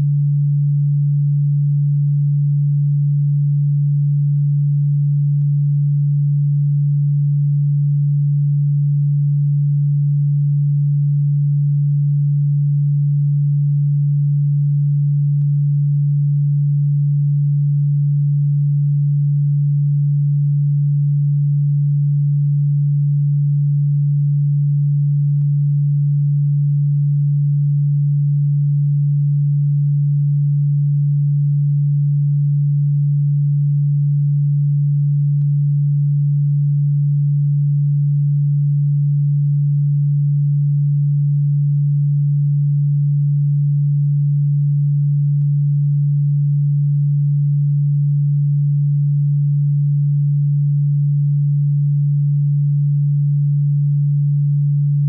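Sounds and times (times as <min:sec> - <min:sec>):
low sine-wave tone: 0:00.0 - 0:55.0.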